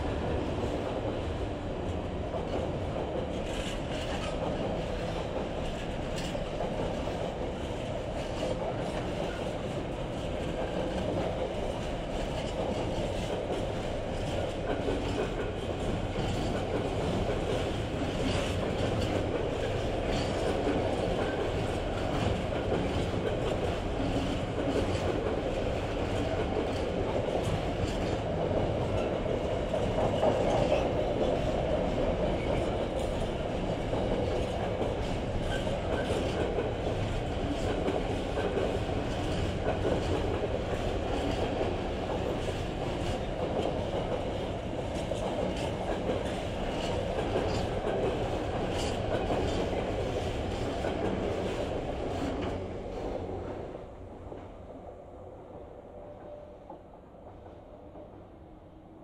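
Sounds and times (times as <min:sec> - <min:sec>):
steel wheels rumbling on rail: 0:00.0 - 0:59.0.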